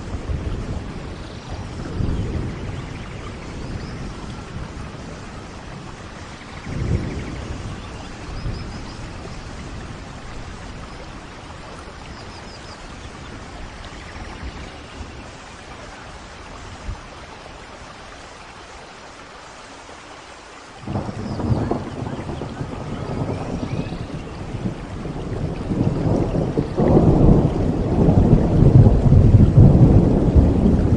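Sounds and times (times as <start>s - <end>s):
thunder rumbling: 0.0s - 17.1s, 20.8s - 30.9s
rain falling: 0.0s - 30.9s.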